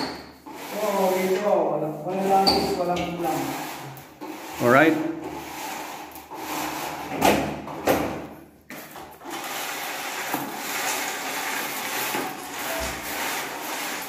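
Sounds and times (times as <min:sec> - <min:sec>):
screen frame scraping window: 0:00.0 - 0:08.0, 0:08.7 - 0:14.0.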